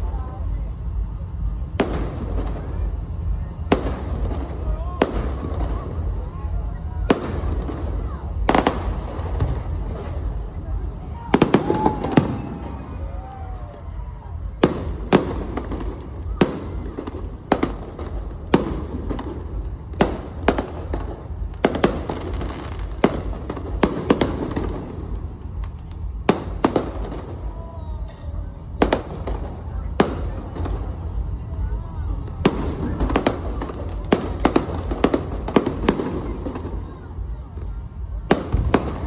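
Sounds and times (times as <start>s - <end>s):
fireworks bangs: 0.0s - 39.0s
low rumble: 0.0s - 39.0s.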